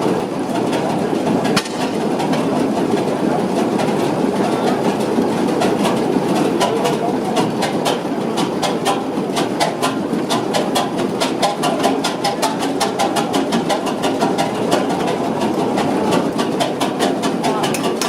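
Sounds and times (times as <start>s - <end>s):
old engine clattering: 0.0s - 18.0s.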